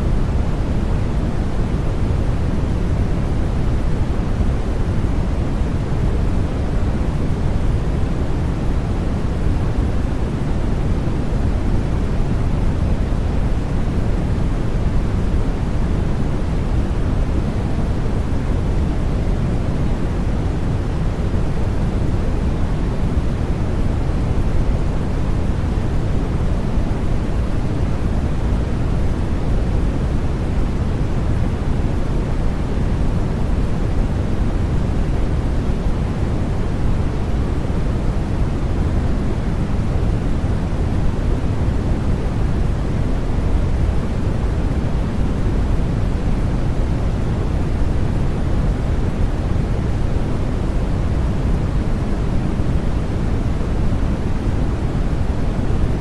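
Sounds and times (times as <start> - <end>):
deep steady noise rush: 0.0 - 56.0
white noise hiss: 0.0 - 56.0.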